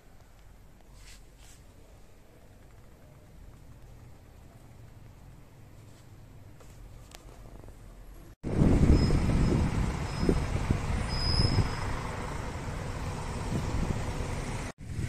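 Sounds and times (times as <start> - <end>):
low urban rumble: 0.0 - 15.0.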